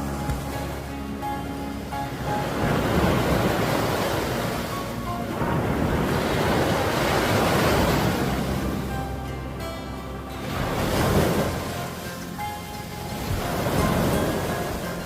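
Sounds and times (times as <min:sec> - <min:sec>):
sea waves washing onto shore: 0:00.0 - 0:15.0
wind buffeting microphone: 0:00.0 - 0:15.0.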